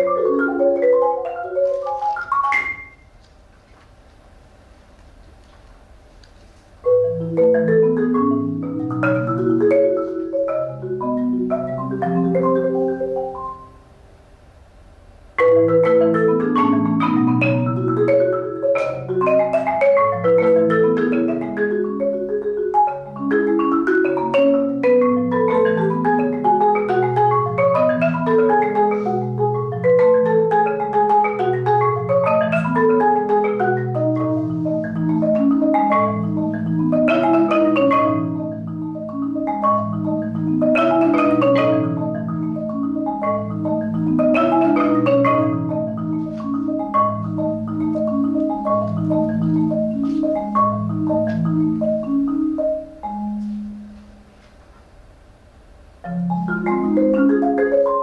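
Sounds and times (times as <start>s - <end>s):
marimba low bass notes: 0.0s - 3.0s, 6.8s - 13.8s, 15.4s - 54.3s, 56.0s - 58.0s
marimba fast runs: 0.0s - 3.1s, 6.8s - 13.9s, 15.4s - 54.3s, 56.0s - 58.0s.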